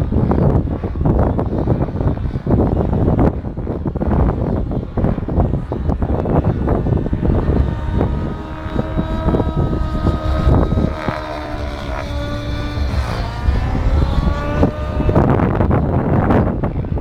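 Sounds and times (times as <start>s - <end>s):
model aircraft engine running: 0.0s - 17.0s
wind rumbling on microphone: 0.0s - 17.0s.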